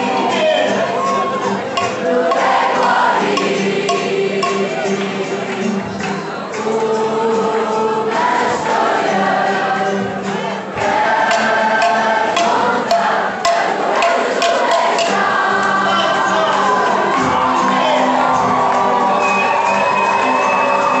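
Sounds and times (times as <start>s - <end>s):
crowd singing in chorus: 0.0s - 21.0s.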